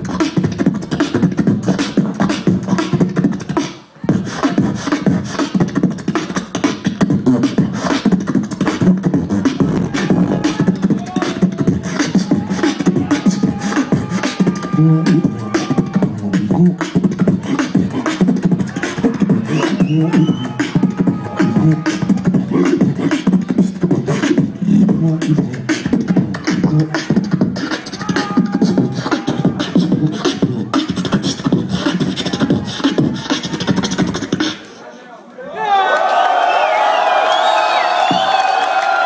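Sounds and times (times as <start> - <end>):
beatboxing through speakers: 0.0 - 34.9, 37.8 - 39.0.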